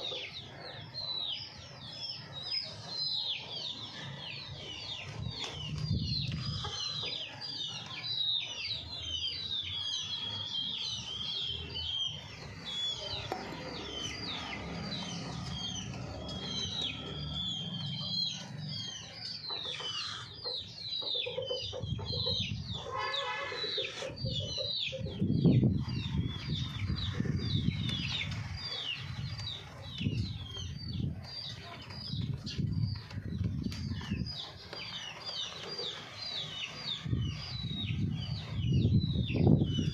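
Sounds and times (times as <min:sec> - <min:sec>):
chickens chirping: 0:00.0 - 0:39.9.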